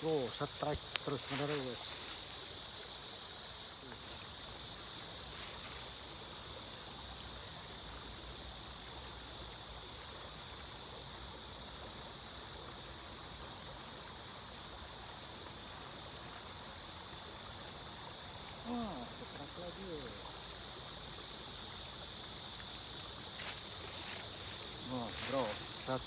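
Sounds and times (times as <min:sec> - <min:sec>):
high outdoor hiss: 0:00.0 - 0:26.0.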